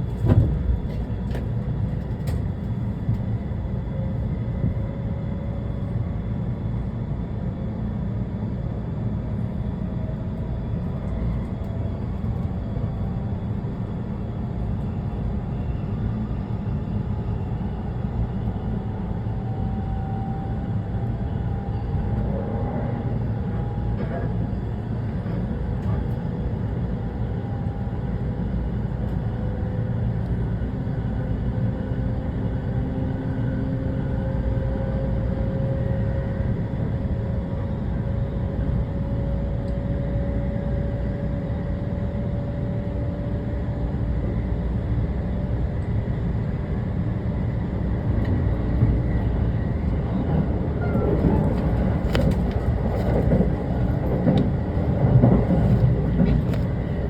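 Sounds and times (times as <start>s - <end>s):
train wheels rumbling on rail: 0.0s - 7.0s, 9.2s - 57.0s.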